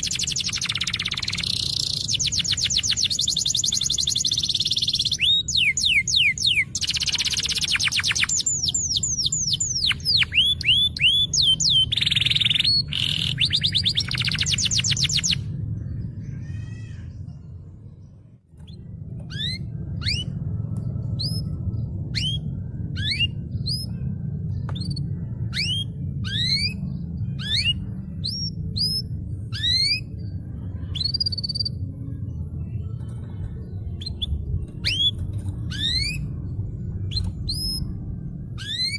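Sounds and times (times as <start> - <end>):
canary singing: 0.0 - 38.9
steady low hum: 0.0 - 38.9.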